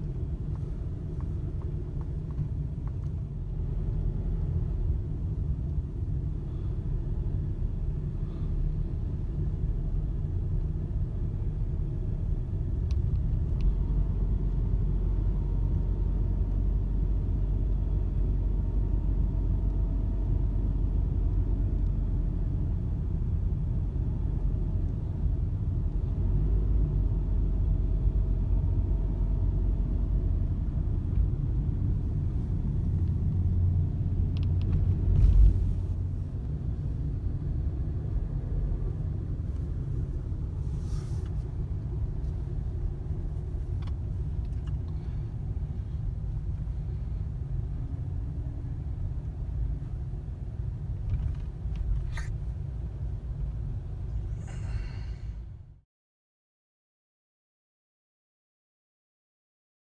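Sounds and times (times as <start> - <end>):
car cabin road and engine rumble: 0.0 - 55.8.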